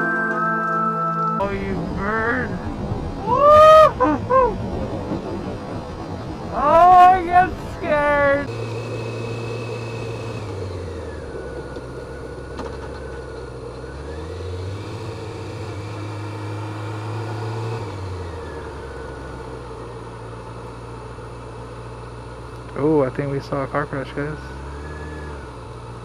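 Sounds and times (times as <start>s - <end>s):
motorcycle engine running: 4.3s - 26.0s.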